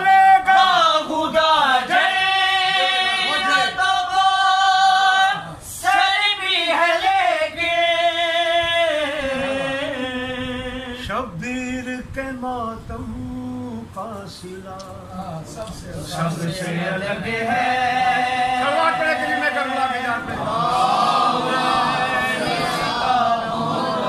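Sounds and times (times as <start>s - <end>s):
men singing unaccompanied: 0.0s - 24.0s.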